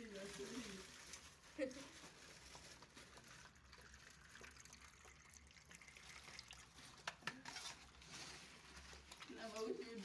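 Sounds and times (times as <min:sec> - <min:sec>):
water trickling into foil tray: 0:00.0 - 0:10.0.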